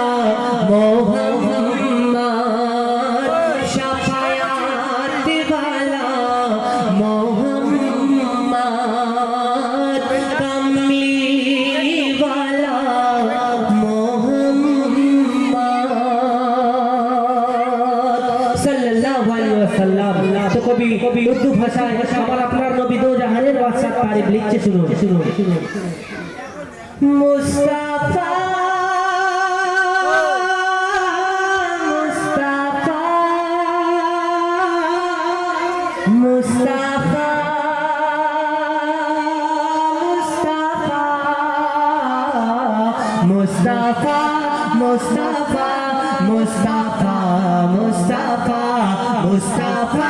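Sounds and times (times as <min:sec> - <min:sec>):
devotional music with singing: 0:00.0 - 0:26.0, 0:26.7 - 0:50.0.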